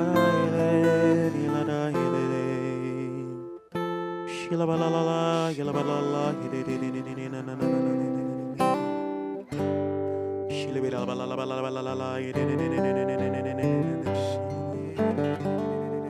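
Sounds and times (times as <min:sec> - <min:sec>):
acoustic guitar chords strummed: 0:00.0 - 0:16.0.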